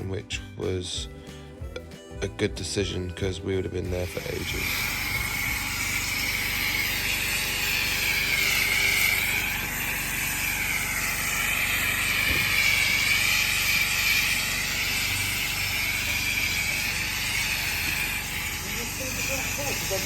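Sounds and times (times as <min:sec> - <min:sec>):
pressure washer spraying: 0:03.9 - 0:20.0.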